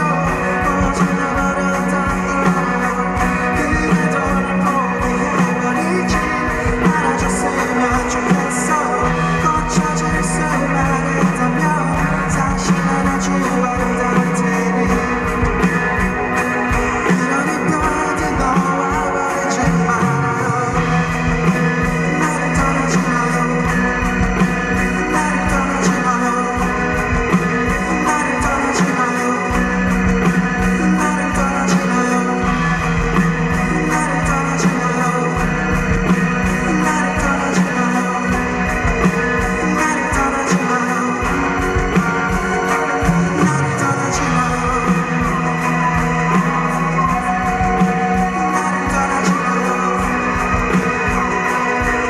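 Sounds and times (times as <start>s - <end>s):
keyboard: 0.0s - 52.0s
live rock band: 0.0s - 52.0s
man singing: 0.0s - 52.0s.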